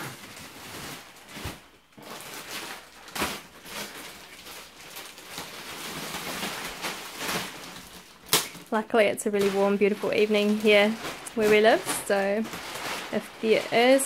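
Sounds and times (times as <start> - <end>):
plastic wrap rustling and crinkling: 0.0 - 14.0.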